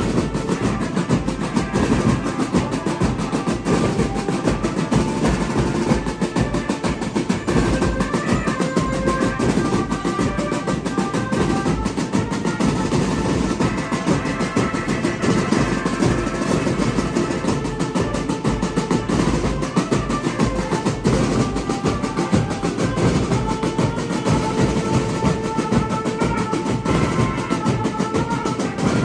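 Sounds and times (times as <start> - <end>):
marching snare drums: 0.0 - 29.0.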